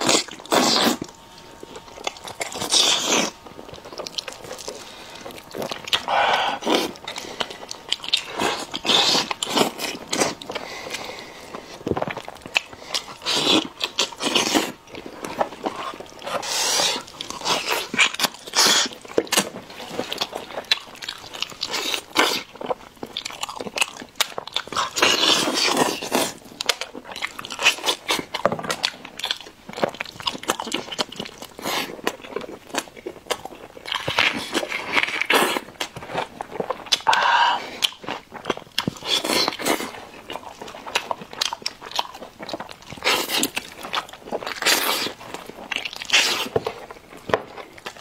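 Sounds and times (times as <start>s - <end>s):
chewing and wet mouth noises: 0.0s - 48.0s.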